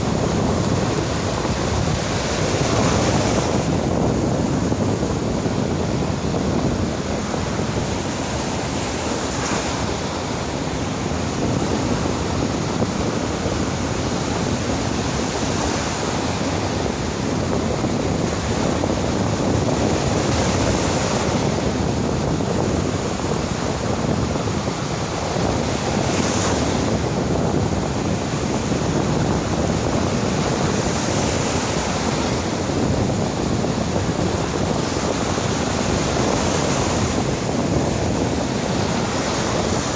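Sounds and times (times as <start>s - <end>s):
waves breaking on shore: 0.0s - 39.9s
wind buffeting microphone: 0.0s - 39.9s.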